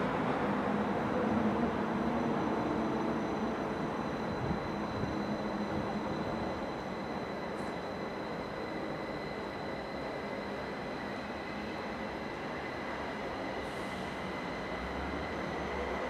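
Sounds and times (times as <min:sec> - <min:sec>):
high steady whine: 0:00.0 - 0:16.0.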